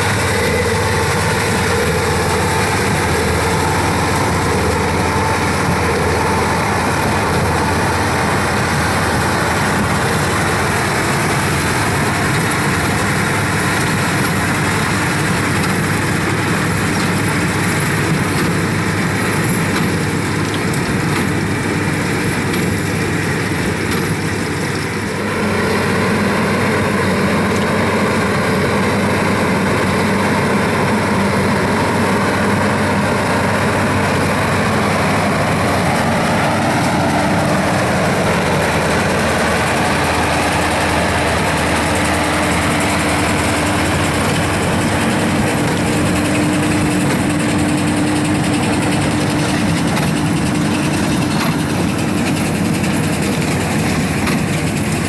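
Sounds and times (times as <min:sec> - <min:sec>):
baler working: 0:00.0 - 0:55.0
tractor engine under load: 0:00.0 - 0:55.0.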